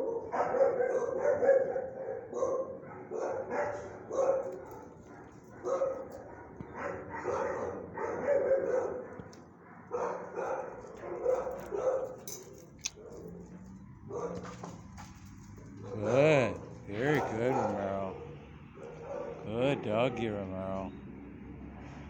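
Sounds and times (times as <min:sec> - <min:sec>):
dog barking: 0:00.0 - 0:14.8, 0:15.7 - 0:20.5.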